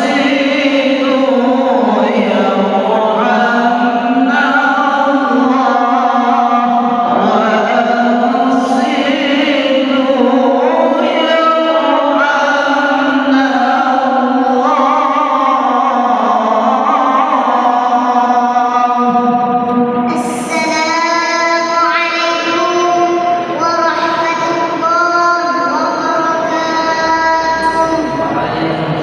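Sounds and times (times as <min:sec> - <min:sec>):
girl reciting melodically: 0:00.0 - 0:29.0.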